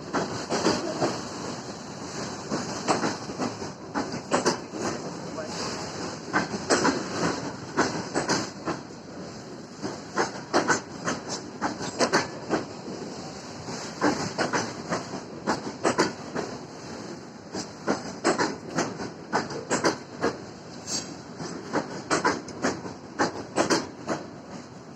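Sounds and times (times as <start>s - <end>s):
train rolling noise: 0.0s - 24.9s
train wheels clacking: 0.0s - 24.9s.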